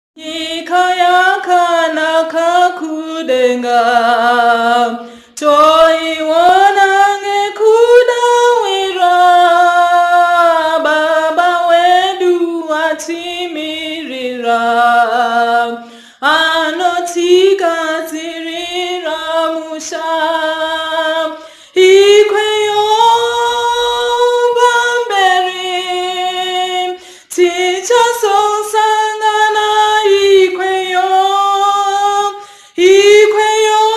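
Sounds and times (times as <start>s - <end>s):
woman singing unaccompanied: 0.2s - 33.9s.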